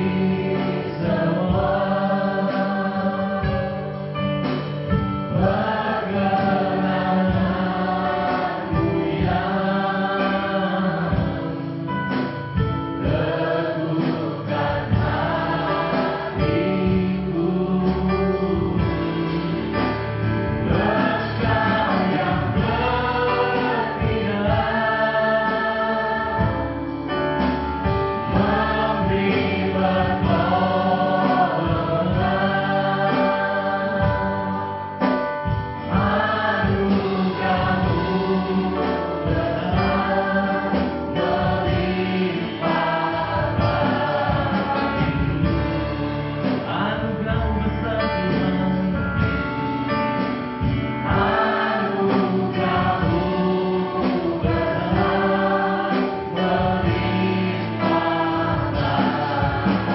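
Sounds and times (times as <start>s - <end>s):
group singing worship song: 0.0s - 59.9s
keyboard and band accompaniment: 0.0s - 59.9s.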